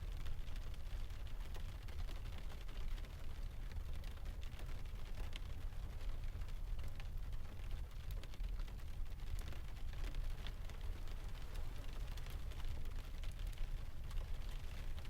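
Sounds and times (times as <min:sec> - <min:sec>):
soft rain: 0:00.0 - 0:15.0.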